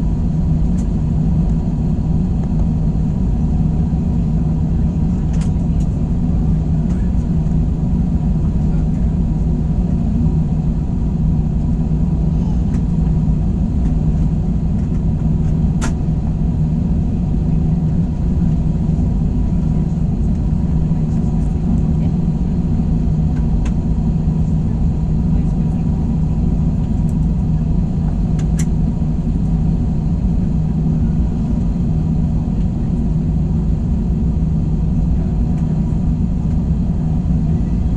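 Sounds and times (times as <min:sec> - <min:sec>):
airplane cabin rumble: 0:00.0 - 0:37.9.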